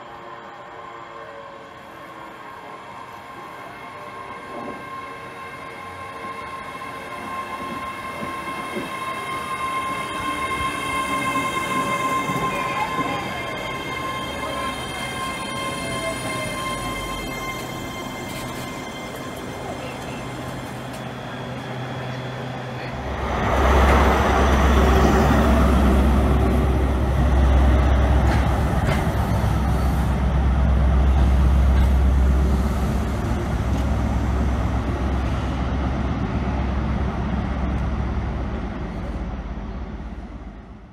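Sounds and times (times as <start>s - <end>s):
diesel train engine drone: 0.0s - 40.9s
electric train hum: 0.0s - 40.9s.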